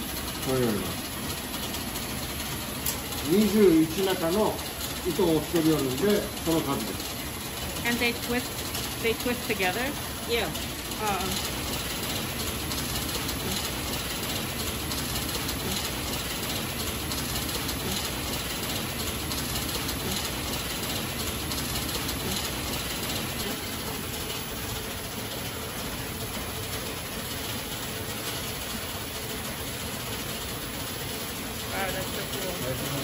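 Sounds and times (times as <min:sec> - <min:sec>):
reeling machine clattering: 0:00.0 - 0:33.0.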